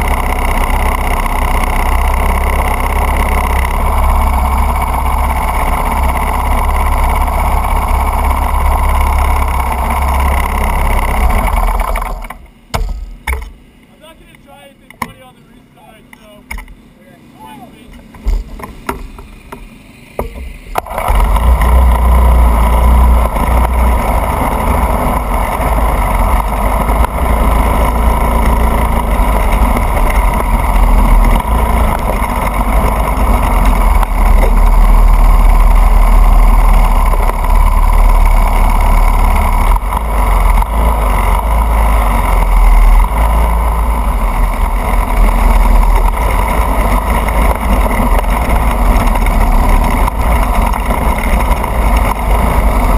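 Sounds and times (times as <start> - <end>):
kart engine running loudly: 0.0 - 12.6, 17.2 - 52.9.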